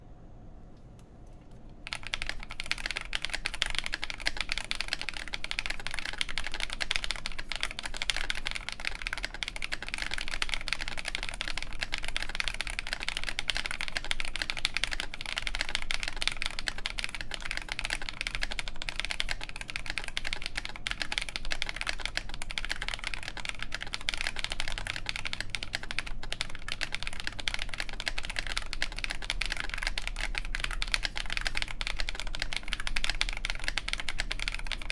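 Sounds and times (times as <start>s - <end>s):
mechanical keyboard typing: 1.8s - 34.9s.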